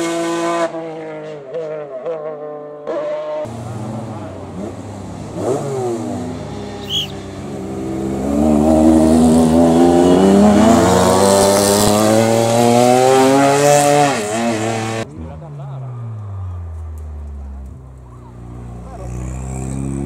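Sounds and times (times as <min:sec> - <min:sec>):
rally car engines revving: 0:00.0 - 0:20.0.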